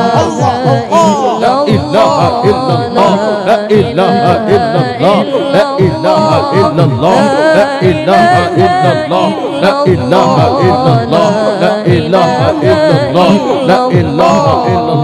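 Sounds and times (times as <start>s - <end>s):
percussive beat: 0.0s - 3.2s, 3.8s - 9.2s, 9.8s - 15.0s
voices chanting: 0.0s - 15.0s.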